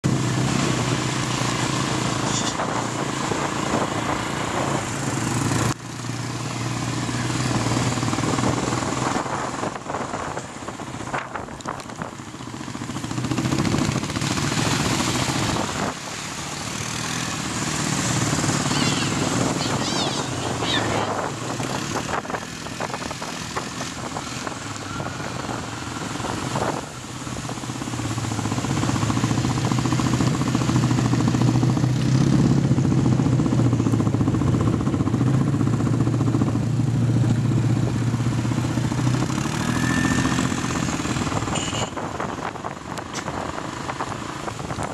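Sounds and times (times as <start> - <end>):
quad bike engines droning: 0.0 - 44.9.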